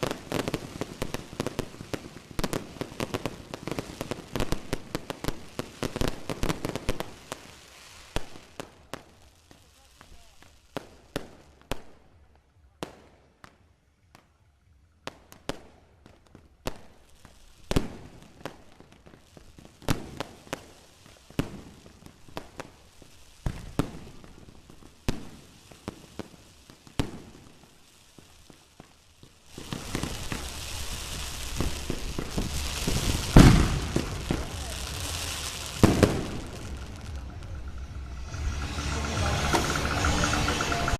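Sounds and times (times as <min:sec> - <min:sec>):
fireworks bangs: 0:00.0 - 0:14.2, 0:15.0 - 0:40.9
fireworks crackling: 0:00.0 - 0:40.9.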